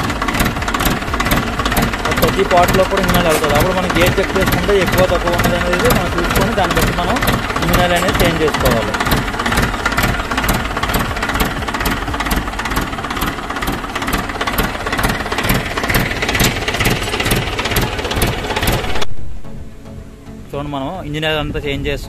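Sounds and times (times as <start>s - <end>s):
tractor diesel engine idling: 0.0s - 19.1s.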